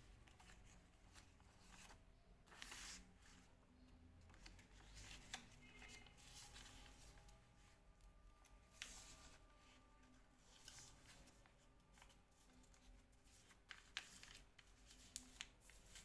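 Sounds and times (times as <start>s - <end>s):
paper rustling and crinkling: 0.0s - 3.5s, 4.3s - 16.0s.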